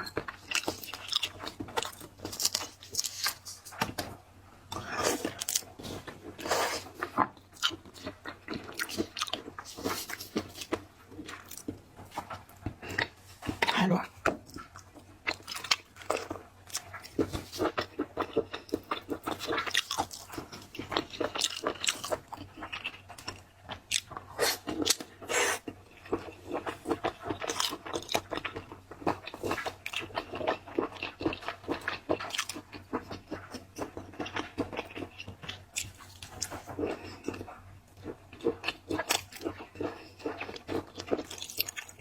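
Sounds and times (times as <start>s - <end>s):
crunching and chewing shellfish: 0.0s - 42.0s.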